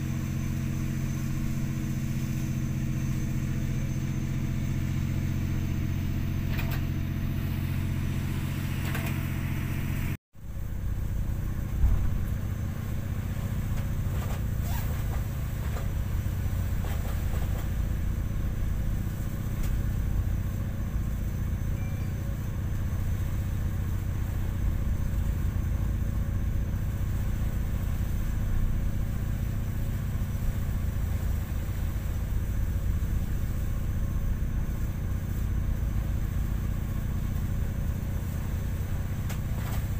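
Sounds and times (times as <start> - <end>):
ship engine drone: 0.0 - 39.9.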